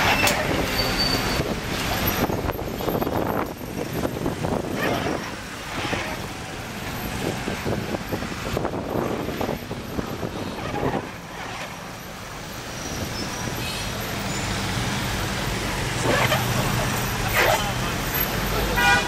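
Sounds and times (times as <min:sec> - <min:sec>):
engine and road noise: 0:00.0 - 0:19.0.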